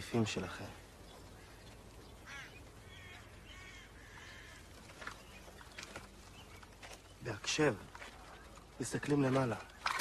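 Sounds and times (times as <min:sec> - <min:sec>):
birds calling: 0:00.0 - 0:10.0
faint steady background: 0:00.0 - 0:10.0.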